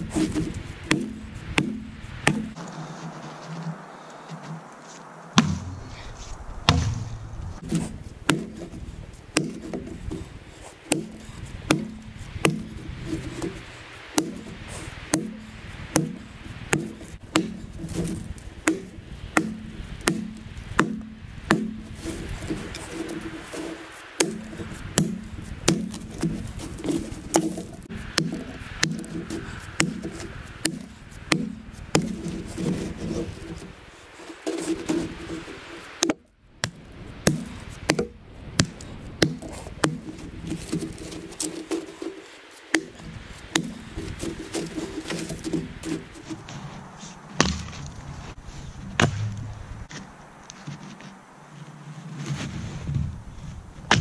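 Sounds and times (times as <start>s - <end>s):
axe chopping log: 0.0s - 2.6s, 5.4s - 5.9s, 6.7s - 46.4s, 47.4s - 47.9s, 49.0s - 49.3s.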